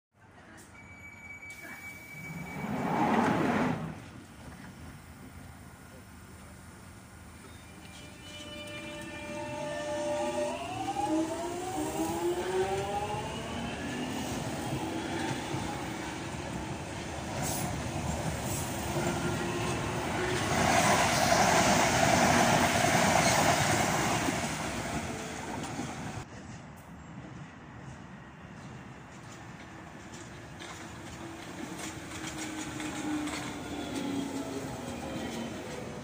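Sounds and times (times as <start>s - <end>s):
wheels rumbling on rails: 2.1s - 5.6s, 6.3s - 36.0s.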